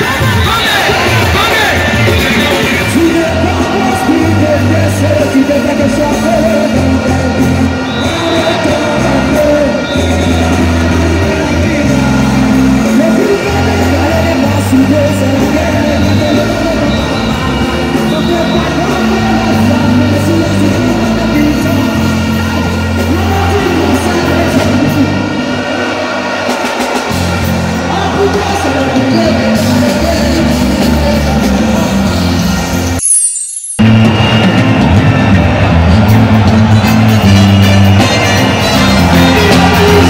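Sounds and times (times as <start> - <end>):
music with heavy bass and beat: 0.0 - 33.2, 33.8 - 40.0.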